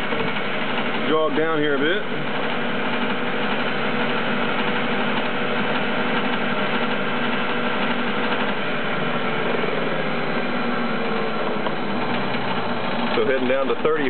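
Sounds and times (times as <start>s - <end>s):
lathe motor running: 0.0s - 14.0s.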